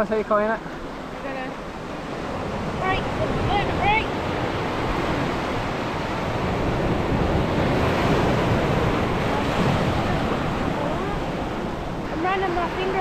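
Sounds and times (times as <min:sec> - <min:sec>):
ocean surf breaking on sand: 0:00.0 - 0:13.0.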